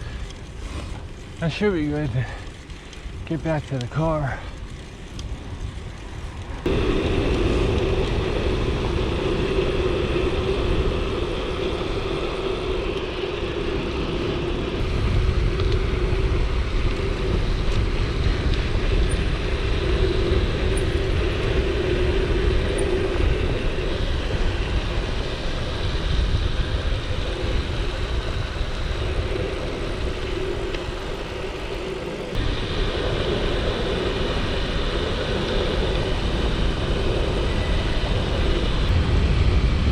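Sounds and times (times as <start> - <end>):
bike tyres rolling: 0.0 - 39.9
low rumble: 0.0 - 39.9
wind over microphone: 0.0 - 39.9
steady hum: 6.6 - 39.9.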